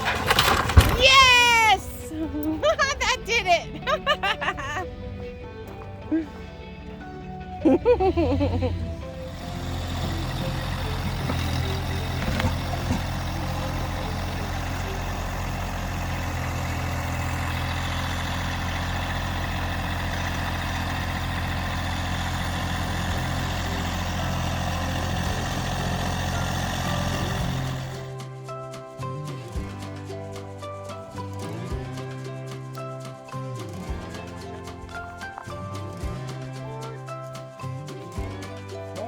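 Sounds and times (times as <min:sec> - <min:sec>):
vehicle engine idling: 0:00.0 - 0:39.0.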